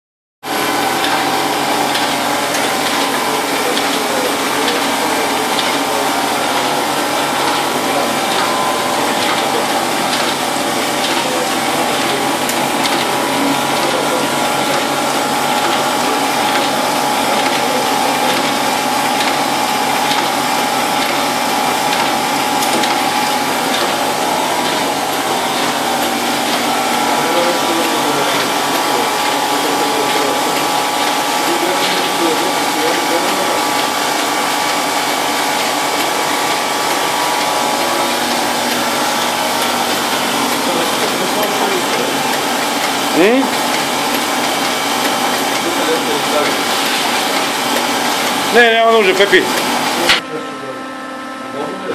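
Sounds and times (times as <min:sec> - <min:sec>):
printing press running: 0:00.4 - 0:51.9.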